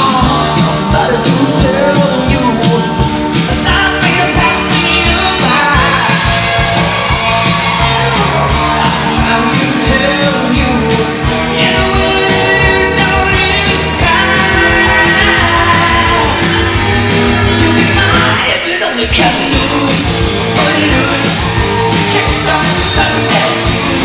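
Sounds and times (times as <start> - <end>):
rock song with singer: 0.0 - 24.0.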